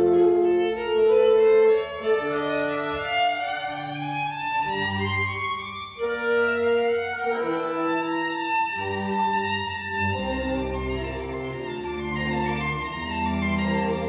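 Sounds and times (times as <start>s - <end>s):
clarinet: 0.0s - 14.0s
double bass: 0.0s - 14.0s
solo violin melody: 0.0s - 14.0s.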